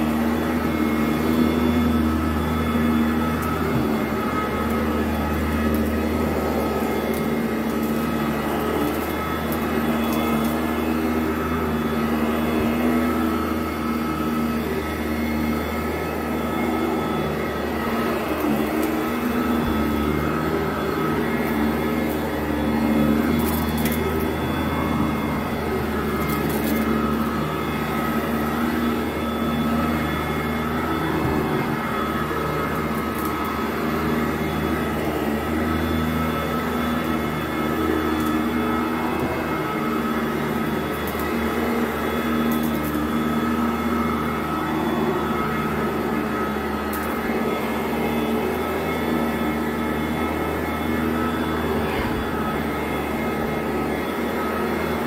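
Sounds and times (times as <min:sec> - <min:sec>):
vacuum cleaner running over carpet: 0:00.0 - 0:55.0.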